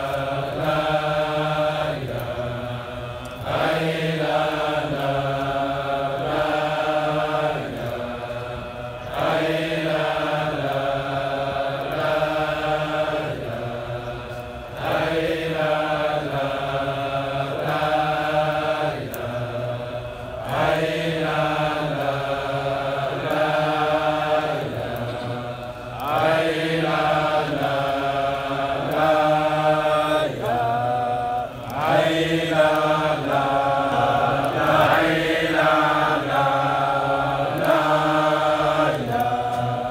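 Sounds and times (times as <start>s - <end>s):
men chanting in unison: 0.0s - 39.9s.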